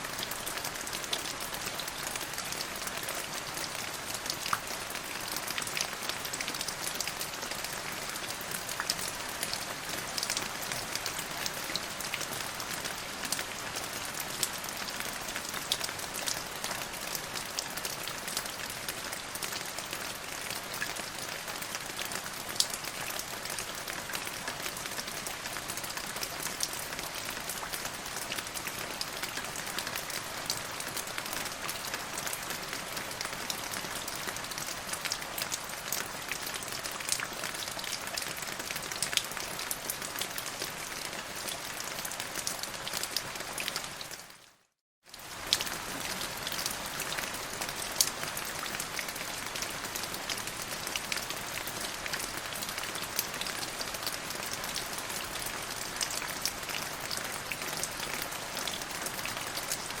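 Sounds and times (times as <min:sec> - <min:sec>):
steady rain: 0:00.0 - 1:00.0.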